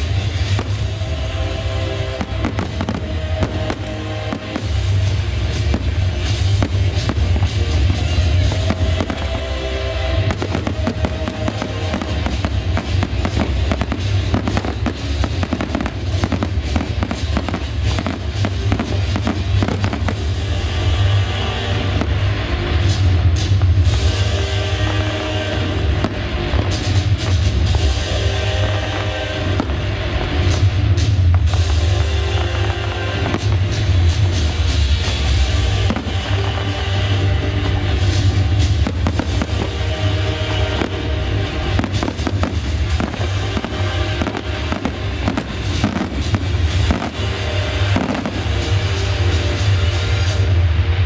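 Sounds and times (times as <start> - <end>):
firework bangs: 0.0 - 51.0
music with strong low end: 0.0 - 51.0.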